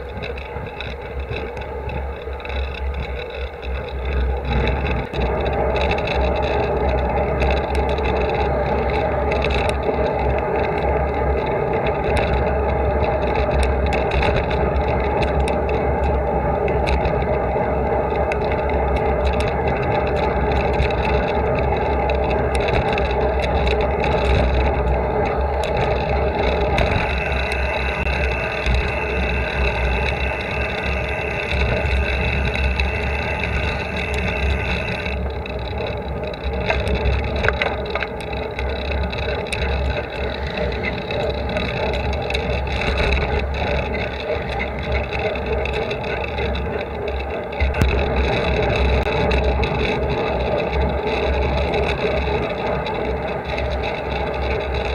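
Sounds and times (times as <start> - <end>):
bicycle tyres humming on asphalt: 0.0 - 54.9
wind buffeting camera: 0.0 - 54.9.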